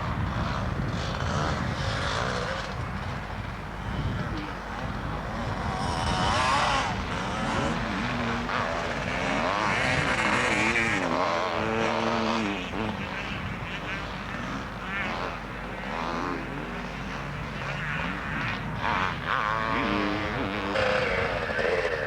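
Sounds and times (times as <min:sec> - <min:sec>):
background engine noise: 0:00.0 - 0:22.0
motorcycle engines revving: 0:00.0 - 0:22.0.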